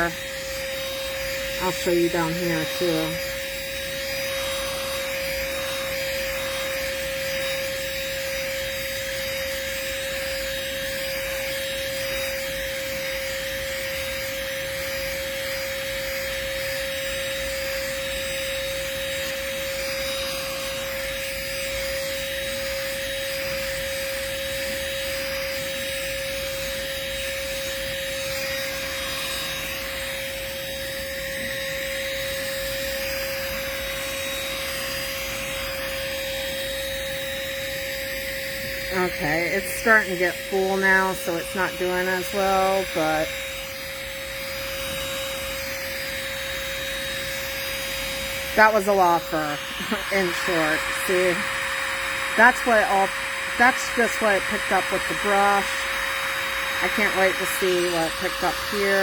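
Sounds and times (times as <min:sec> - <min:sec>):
handheld vacuum motor whine: 0:00.0 - 0:59.0.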